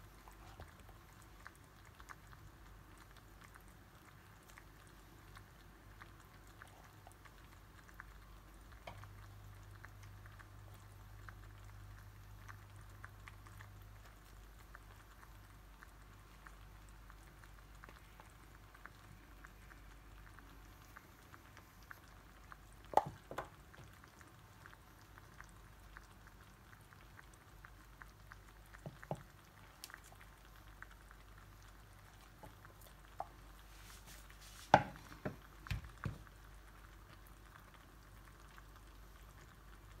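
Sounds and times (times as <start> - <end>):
vegetables crackling in a pot: 0.0 - 40.0.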